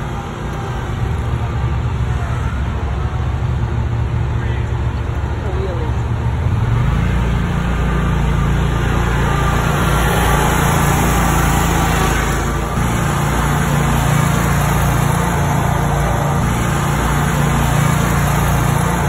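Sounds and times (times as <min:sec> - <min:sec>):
mower engine running: 0:00.0 - 0:19.0.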